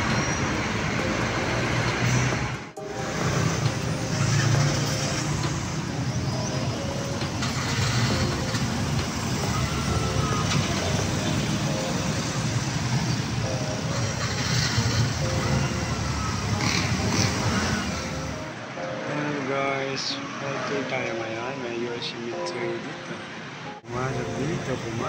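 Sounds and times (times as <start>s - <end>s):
busy road traffic: 0.0s - 25.0s.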